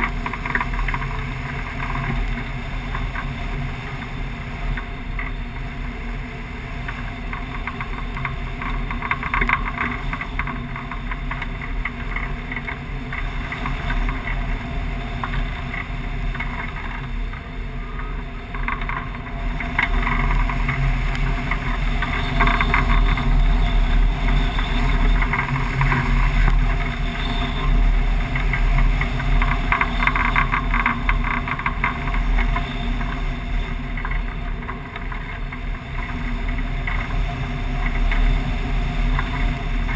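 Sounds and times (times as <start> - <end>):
deep rumble: 0.0 - 39.9
wind noise on microphone: 0.0 - 39.9.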